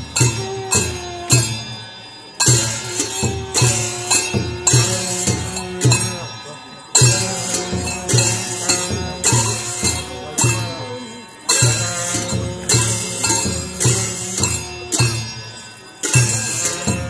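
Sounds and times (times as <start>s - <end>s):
cymbals crashing: 0.0s - 17.0s.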